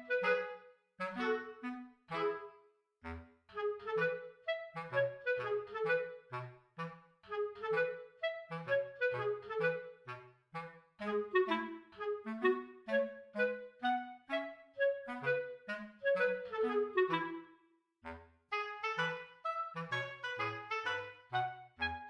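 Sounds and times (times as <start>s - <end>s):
woodwind melody: 0.0s - 22.0s.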